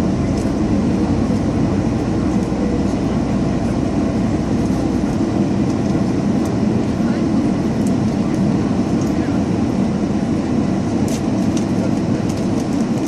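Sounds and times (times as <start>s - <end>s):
deep rumble: 0.0s - 13.0s
jet engines roaring: 0.0s - 13.0s.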